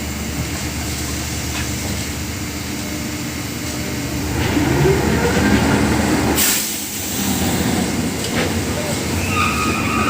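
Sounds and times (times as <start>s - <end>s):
drilling rig engine drone: 0.0s - 10.0s.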